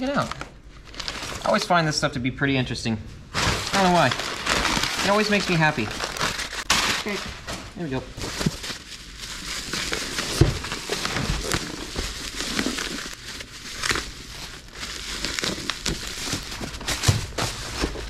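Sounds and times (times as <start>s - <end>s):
bubble wrap crinkling: 0.0s - 1.8s, 3.3s - 18.0s.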